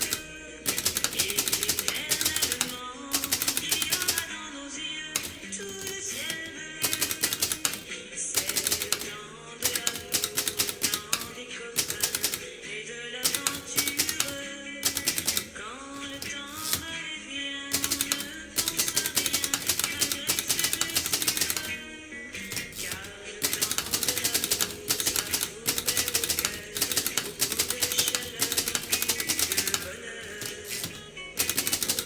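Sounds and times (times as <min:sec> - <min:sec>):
typewriter key strikes: 0:00.0 - 0:04.4, 0:05.1 - 0:12.6, 0:13.2 - 0:17.1, 0:17.7 - 0:32.0
background music with singing: 0:00.0 - 0:32.0.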